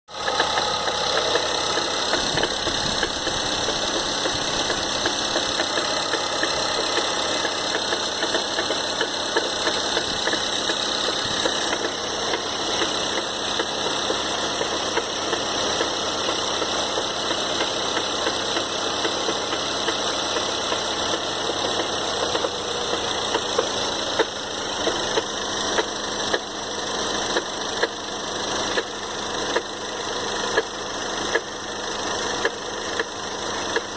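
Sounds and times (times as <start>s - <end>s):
car engine idling: 0.1s - 33.9s
engine knocking: 0.1s - 33.9s.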